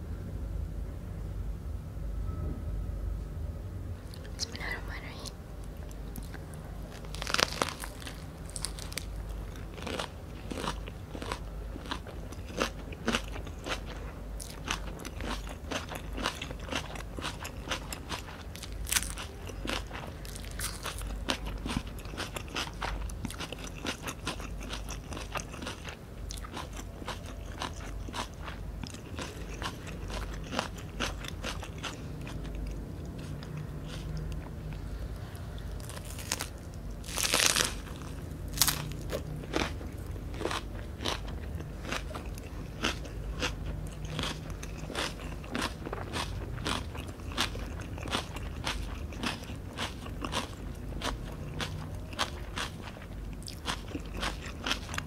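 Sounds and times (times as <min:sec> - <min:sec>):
person chewing crunchy food: 0:05.6 - 0:55.0.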